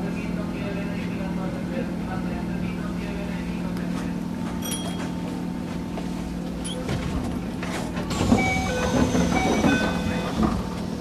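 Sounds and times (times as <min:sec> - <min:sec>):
electric train interior hum: 0:00.0 - 0:11.0.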